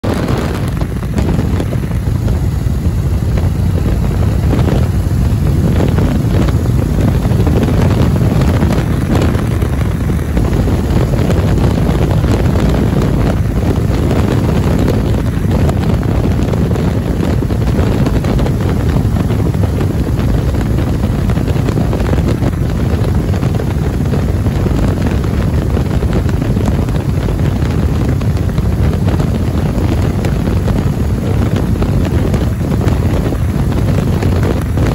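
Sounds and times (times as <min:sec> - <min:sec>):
wind rush: 0:00.0 - 0:34.9.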